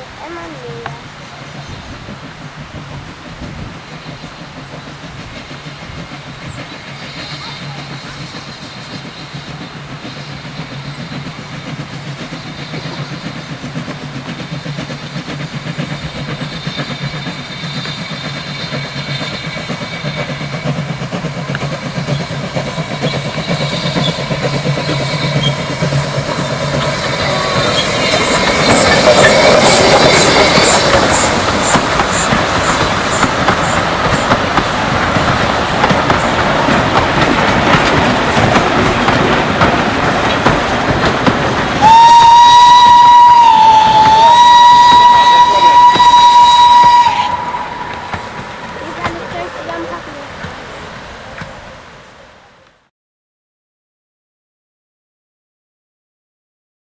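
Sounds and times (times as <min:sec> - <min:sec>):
clickety-clack of train wheels: 0:00.0 - 0:51.7
steam train passing: 0:00.0 - 0:52.9.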